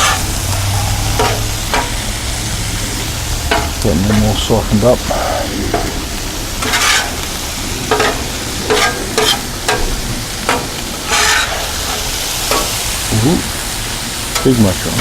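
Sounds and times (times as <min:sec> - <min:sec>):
spatula scraping griddle: 0:00.0 - 0:13.1
vegetables sizzling on griddle: 0:00.0 - 0:15.0.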